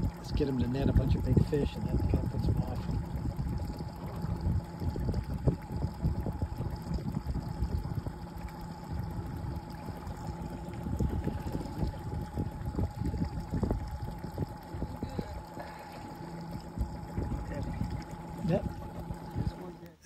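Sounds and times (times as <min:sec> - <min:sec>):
boat motor whining: 0:00.0 - 0:20.0
water splashing against hull: 0:00.0 - 0:20.0.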